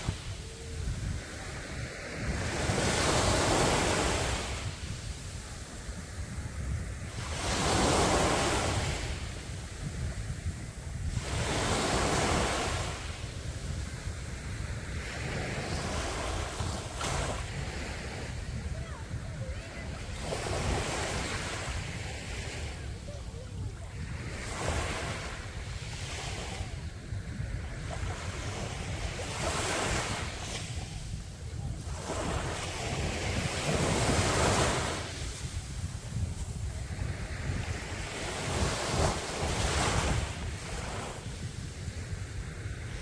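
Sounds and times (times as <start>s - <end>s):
sea waves breaking on beach: 0.0s - 43.0s.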